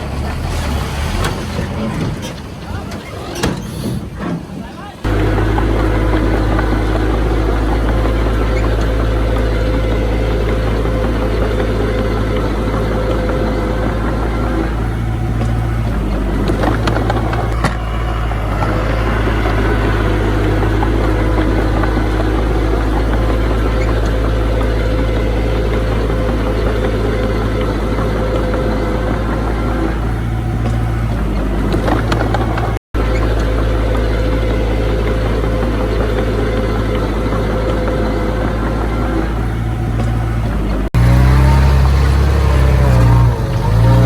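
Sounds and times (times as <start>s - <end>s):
heavy diesel engine droning: 0.0s - 44.0s.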